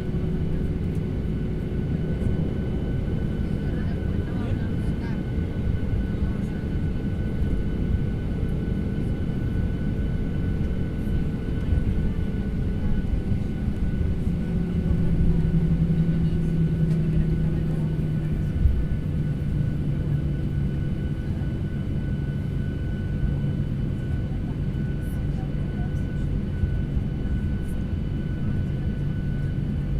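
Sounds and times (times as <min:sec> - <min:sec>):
jet cabin engine rumble: 0:00.0 - 0:29.9.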